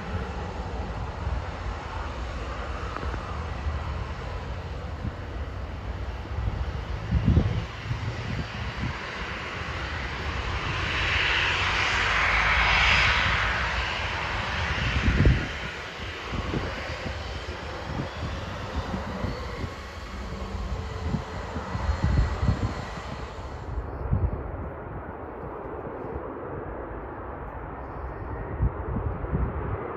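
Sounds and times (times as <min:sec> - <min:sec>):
aircraft engines passing: 0:00.0 - 0:29.9
wind buffeting microphone: 0:00.0 - 0:29.9.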